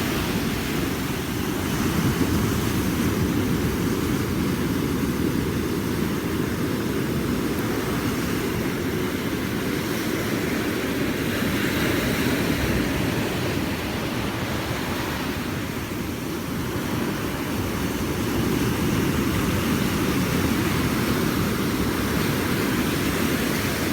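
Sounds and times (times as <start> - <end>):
ocean surf washing onto beach: 0.0 - 23.9.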